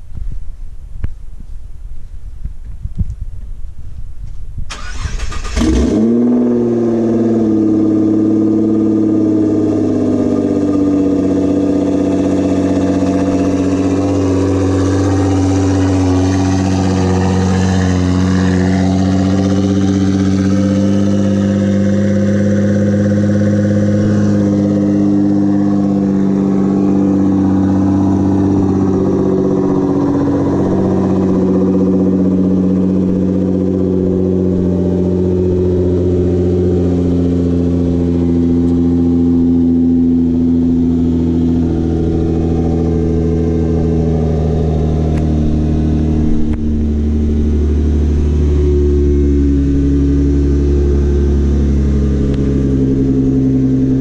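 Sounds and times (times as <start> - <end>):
car engine starting and idling: 4.2 - 54.0.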